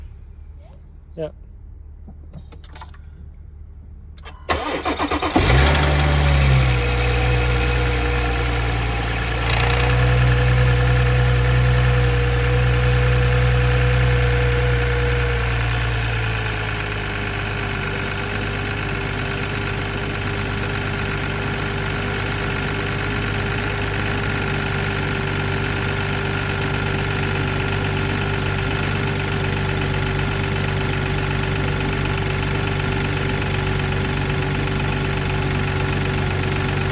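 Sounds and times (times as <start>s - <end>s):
engine rattle: 4.2s - 36.9s
starter motor cranking: 4.2s - 36.9s
car engine revving and idling: 4.5s - 36.9s.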